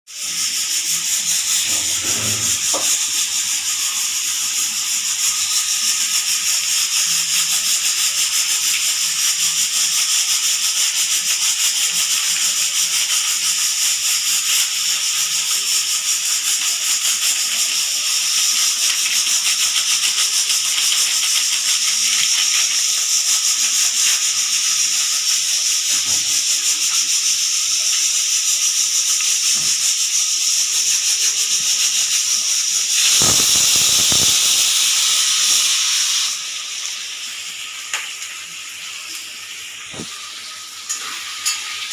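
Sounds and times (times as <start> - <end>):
pressure cooker hissing steam: 0.1 - 41.9.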